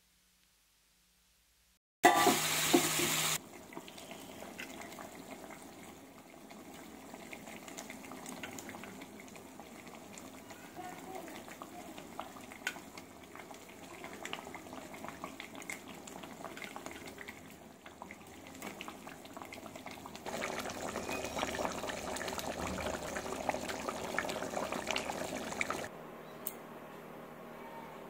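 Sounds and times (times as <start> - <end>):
curry bubbling and sputtering: 3.4 - 25.9.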